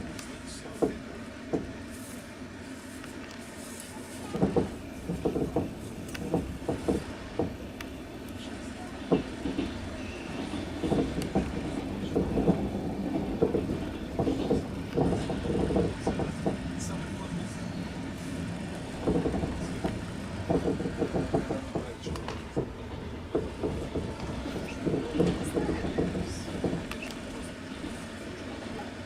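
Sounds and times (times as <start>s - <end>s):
train wheels rumbling: 0.0s - 29.0s
wheels clacking over rail joints: 4.1s - 29.0s.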